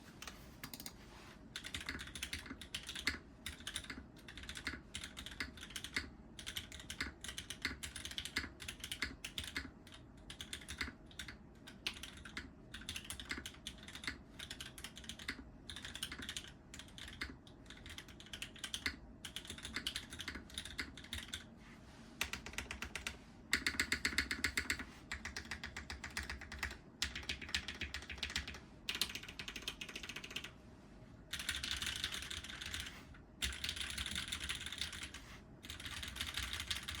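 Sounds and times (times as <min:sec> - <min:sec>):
mechanical keyboard typing: 0:00.2 - 0:01.0, 0:01.6 - 0:21.5, 0:22.2 - 0:30.5, 0:31.3 - 0:37.0.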